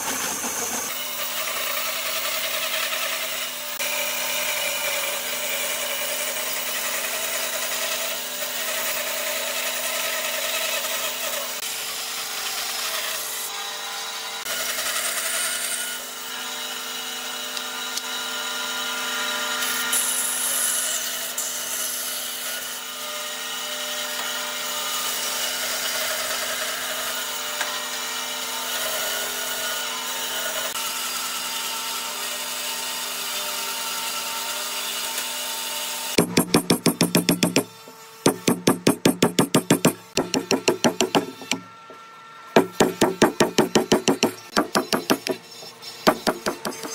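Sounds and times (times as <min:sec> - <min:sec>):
bandsaw cutting timber: 0:00.0 - 0:31.5, 0:33.3 - 0:46.9.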